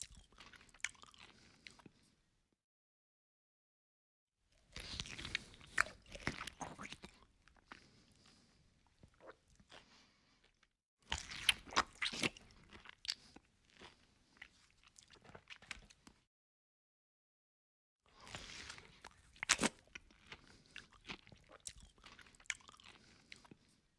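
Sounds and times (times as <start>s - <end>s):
chewing and crunching food: 0.0s - 2.2s, 4.5s - 16.3s, 18.1s - 23.9s.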